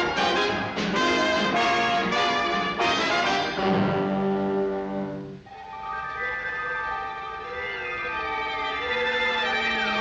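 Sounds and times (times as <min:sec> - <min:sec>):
orchestral cartoon music with brass: 0:00.0 - 0:10.0.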